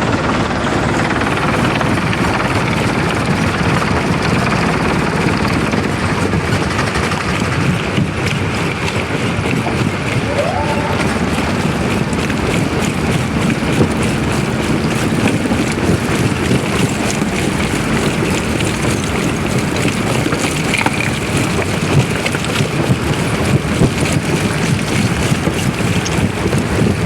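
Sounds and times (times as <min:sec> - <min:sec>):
heavy machinery engine running: 0:00.0 - 0:27.0
wind buffeting microphone: 0:00.8 - 0:27.0.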